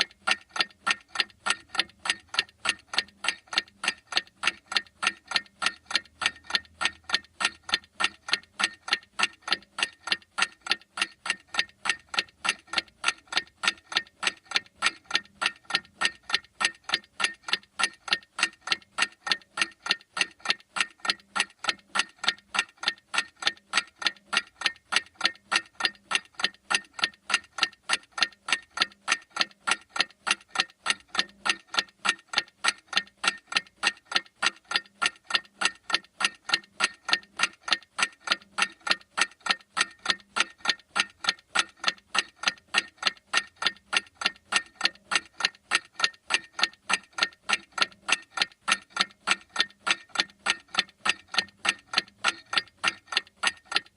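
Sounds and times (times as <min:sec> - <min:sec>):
clock ticking: 0:00.0 - 0:53.9.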